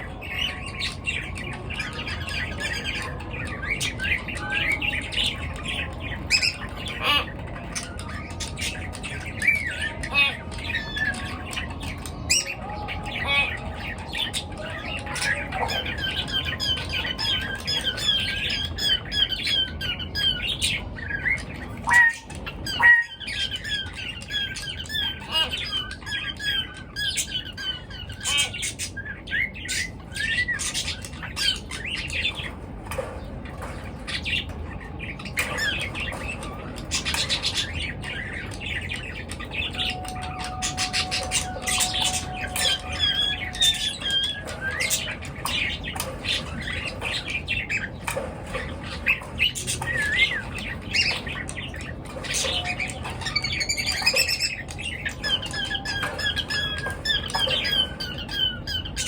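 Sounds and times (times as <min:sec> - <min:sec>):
pet birds chirping and squawking: 0:00.0 - 0:59.0.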